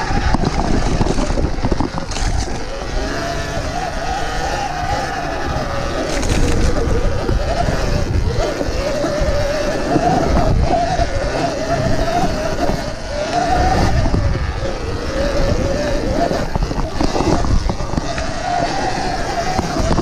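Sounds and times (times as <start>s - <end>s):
electric motor whine: 0.0s - 20.0s
wind buffeting: 0.0s - 20.0s.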